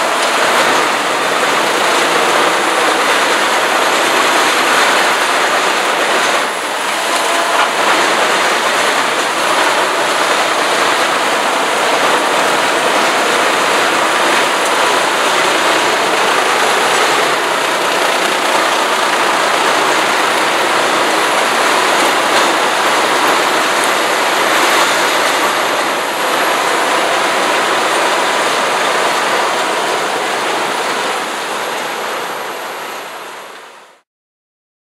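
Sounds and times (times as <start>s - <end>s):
wood chipper chipping wood: 0.0s - 32.3s.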